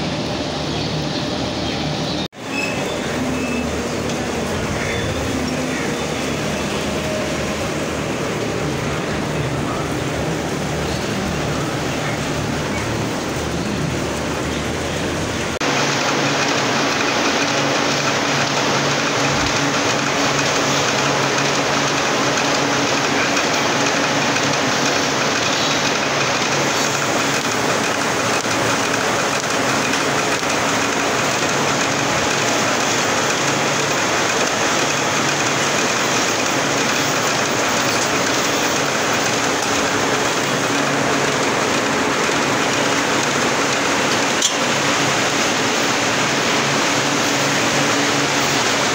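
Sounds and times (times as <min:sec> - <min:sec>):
low machine hum: 0:00.0 - 0:48.9
milking machines hissing: 0:02.5 - 0:48.9.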